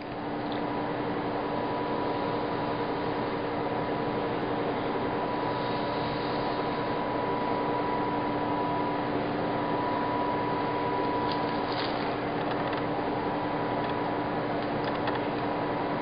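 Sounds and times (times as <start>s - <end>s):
blower noise: 0.0s - 16.0s.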